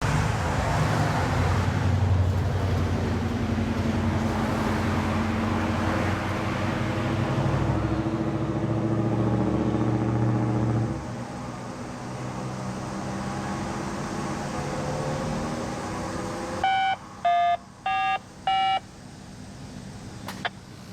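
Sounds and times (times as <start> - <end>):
road noise: 0.0 - 20.9
vehicle engine humming: 0.0 - 20.9.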